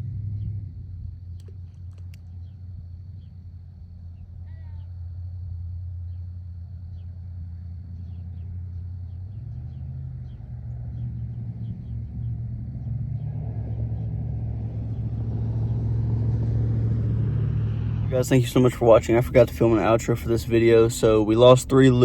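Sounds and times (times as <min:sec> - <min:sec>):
road rumble: 0:00.0 - 0:22.0
vehicle engine: 0:00.0 - 0:22.0.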